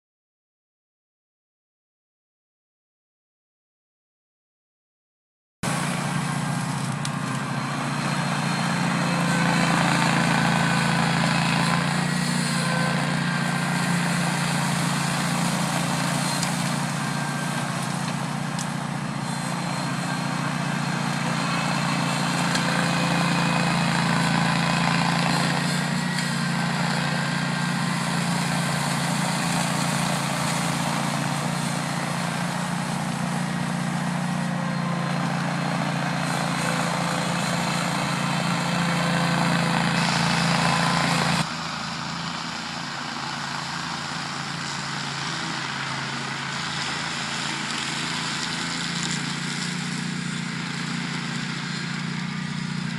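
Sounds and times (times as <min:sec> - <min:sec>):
mower cutting brush: 0:05.6 - 0:52.9
tractor engine running: 0:05.6 - 0:52.9.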